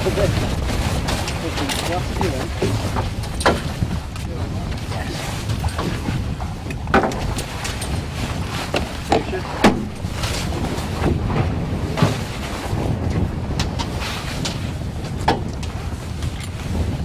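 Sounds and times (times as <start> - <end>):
knocks and rustles of handling: 0.0 - 17.0
wind buffeting microphone: 0.0 - 17.0.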